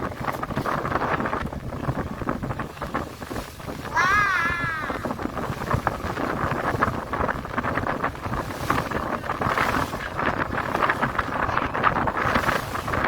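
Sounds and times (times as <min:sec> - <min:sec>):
boat rushing through water: 0:00.0 - 0:13.0
wind buffeting microphone: 0:00.0 - 0:13.0.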